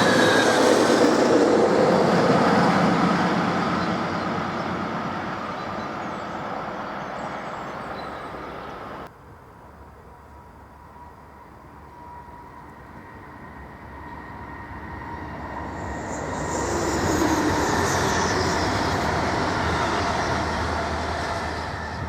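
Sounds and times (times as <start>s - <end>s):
electric train running past: 0.0s - 22.0s
faint train whine: 0.0s - 22.0s.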